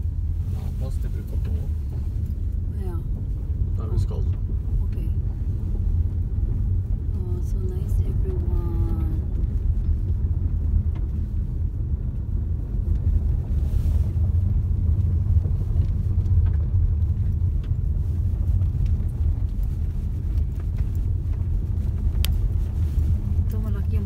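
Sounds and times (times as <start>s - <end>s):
car interior road rumble: 0.0s - 24.0s.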